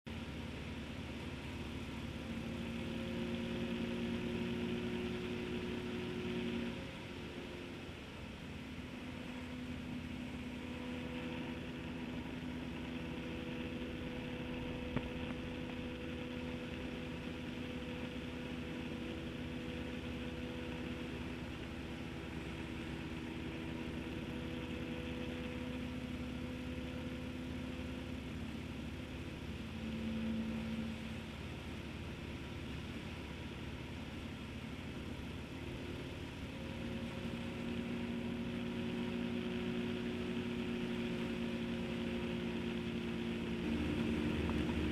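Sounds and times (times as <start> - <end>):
road noise: 0.0 - 44.9
motorcycle engine running: 0.1 - 44.9.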